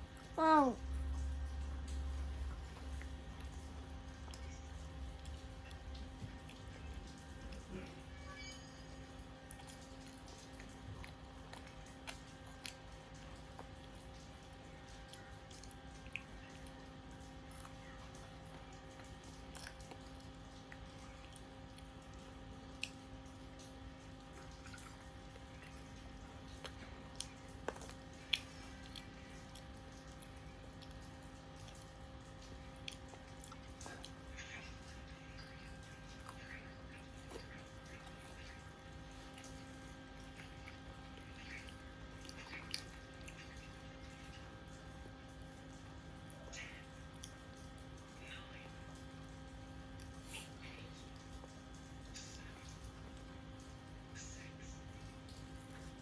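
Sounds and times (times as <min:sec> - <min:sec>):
steady low hum: 0:00.0 - 0:08.2, 0:09.2 - 0:56.0
child chewing food: 0:00.0 - 0:56.0.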